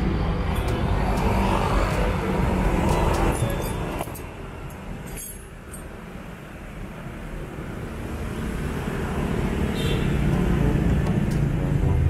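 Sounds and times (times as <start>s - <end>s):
motor traffic rumble: 0.0s - 12.0s.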